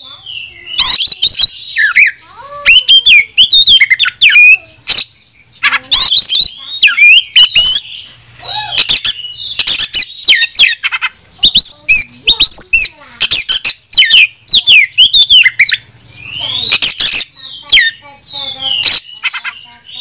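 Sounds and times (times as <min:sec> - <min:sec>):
bird singing whistled notes: 0:00.0 - 0:10.8, 0:11.4 - 0:20.0.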